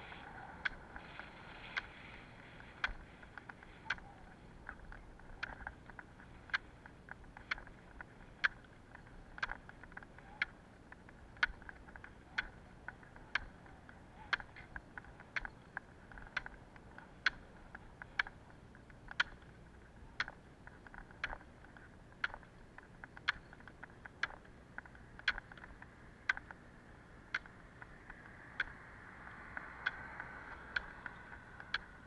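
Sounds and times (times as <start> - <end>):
faint steady noise: 0.0 - 32.0
pole tips clicking on asphalt: 0.0 - 32.0.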